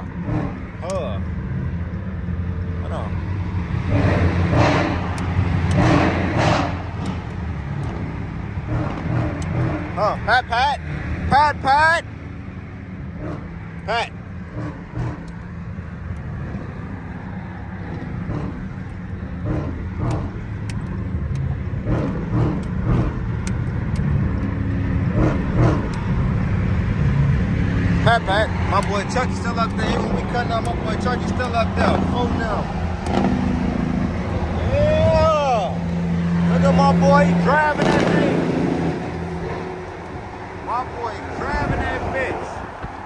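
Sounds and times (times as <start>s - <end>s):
car engine cruising: 0.0s - 43.0s
rushing road and wind noise: 0.0s - 43.0s.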